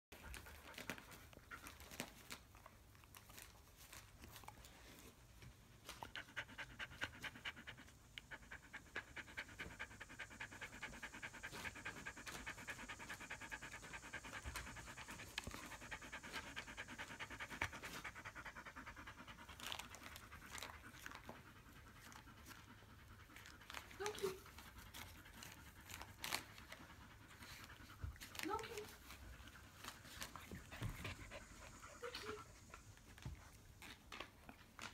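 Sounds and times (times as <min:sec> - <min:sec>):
dog panting: 0:00.2 - 0:34.9.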